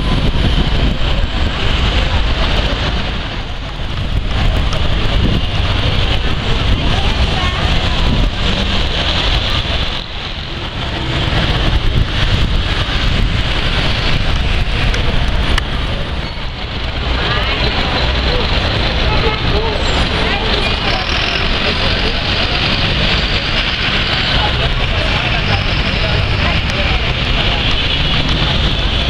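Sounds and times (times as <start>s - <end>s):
busy street traffic: 0.0s - 29.0s.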